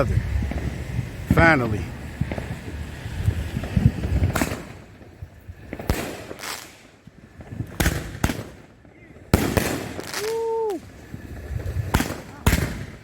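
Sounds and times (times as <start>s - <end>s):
firework cracks: 0.0s - 13.0s
firework thuds: 0.0s - 13.0s.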